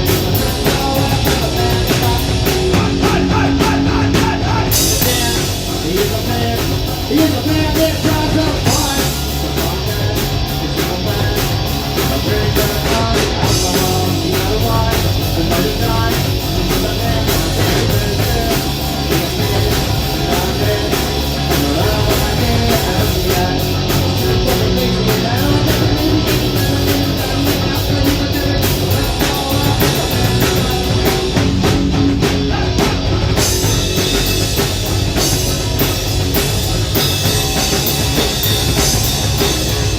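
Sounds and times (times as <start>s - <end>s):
drum kit beat: 0.0s - 39.9s
electric guitars: 0.0s - 39.9s
live rock band playing: 0.0s - 39.9s.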